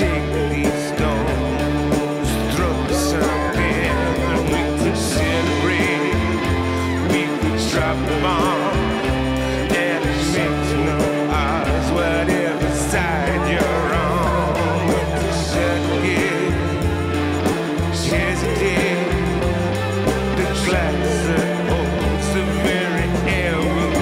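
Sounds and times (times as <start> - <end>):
rock music with guitar and bass: 0.0 - 24.0.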